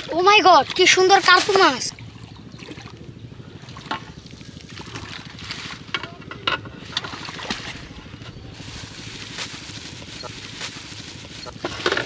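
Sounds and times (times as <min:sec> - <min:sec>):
low background rumble: 0:00.0 - 0:12.0
water sloshing and splashing: 0:00.0 - 0:12.0.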